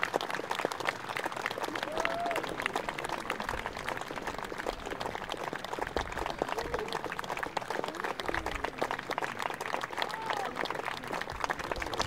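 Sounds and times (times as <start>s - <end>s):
audience applauding: 0.0s - 12.0s
faint voices in crowd: 0.8s - 12.0s.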